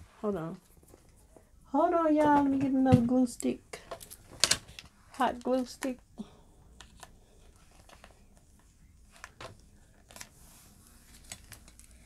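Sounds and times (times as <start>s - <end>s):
faint rustling of small items: 0.0s - 12.0s
low room hum: 0.0s - 12.0s.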